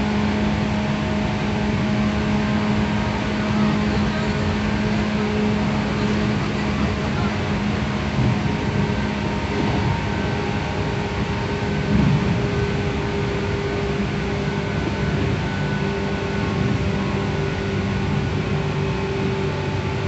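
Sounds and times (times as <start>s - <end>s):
steady train hum: 0.0s - 20.0s
train wheels rumbling on rail: 0.0s - 20.0s.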